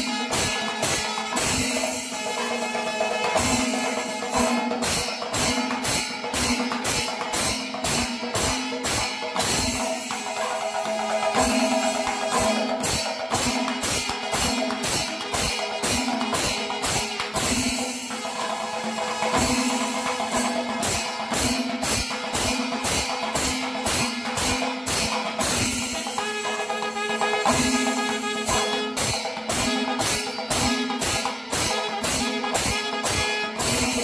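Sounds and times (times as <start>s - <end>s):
drums beaten: 0.0s - 34.0s
hand cymbals clashing: 0.0s - 34.0s.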